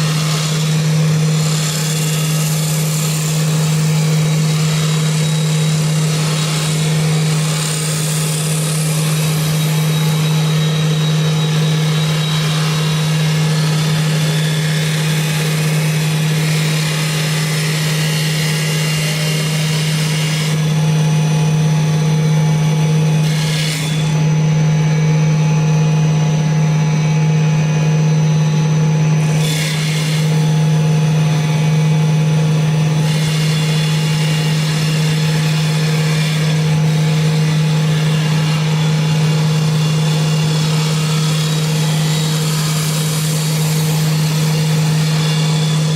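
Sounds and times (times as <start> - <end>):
cutters hissing on wood: 0.0 - 21.0, 29.3 - 31.8, 32.6 - 45.9
lathe motor hum: 0.0 - 45.9.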